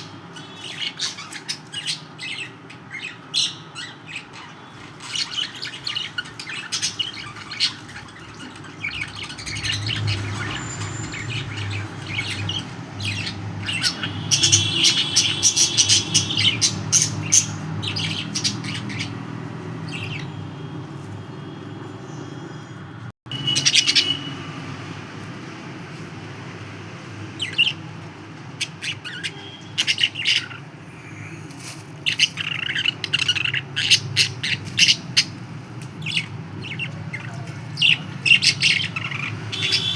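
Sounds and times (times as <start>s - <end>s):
budgerigars chirping and squawking: 0.0s - 20.5s, 23.4s - 24.3s, 27.4s - 39.9s.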